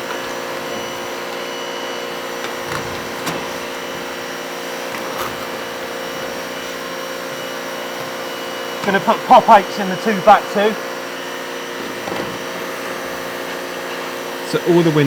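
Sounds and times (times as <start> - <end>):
electric power tool running: 0.0 - 15.0.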